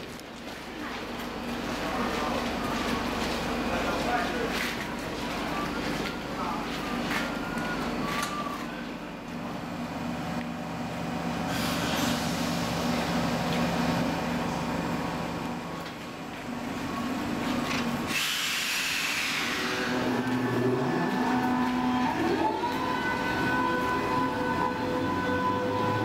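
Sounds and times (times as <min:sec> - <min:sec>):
electric train humming: 0:01.0 - 0:26.0.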